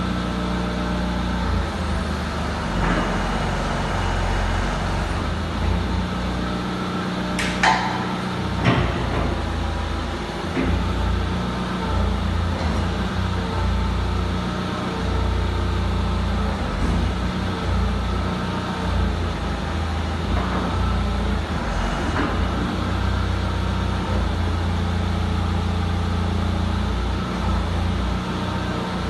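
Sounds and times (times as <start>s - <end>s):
excavator diesel engine humming: 0.0s - 29.0s.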